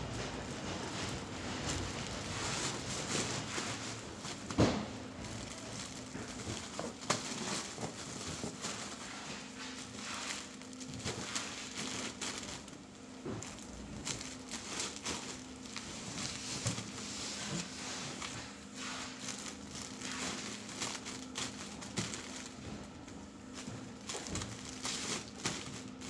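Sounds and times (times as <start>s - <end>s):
low machine hum: 0.0s - 26.0s
plastic bags crinkling: 0.0s - 26.0s.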